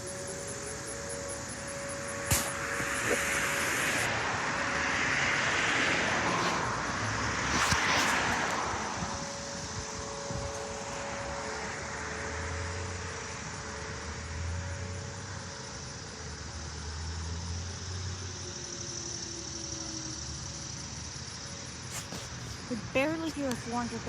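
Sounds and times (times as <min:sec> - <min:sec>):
distant warning siren: 0:00.0 - 0:24.0
road traffic rumble: 0:00.0 - 0:24.0.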